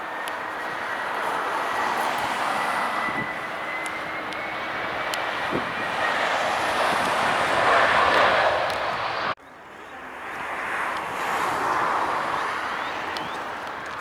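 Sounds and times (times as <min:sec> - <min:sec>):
jet engines rushing and whining: 0:00.0 - 0:09.4, 0:10.1 - 0:14.0.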